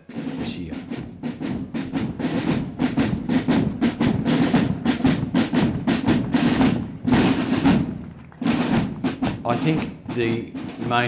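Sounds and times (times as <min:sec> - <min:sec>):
snare drum rolls: 0:00.0 - 0:11.0
snare drums marching cadence: 0:00.0 - 0:11.0.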